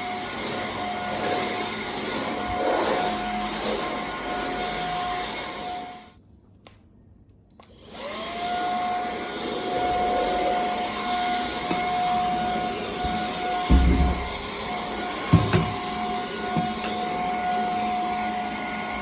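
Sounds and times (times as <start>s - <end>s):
cordless vacuum whining: 0.0s - 6.0s, 7.6s - 19.0s.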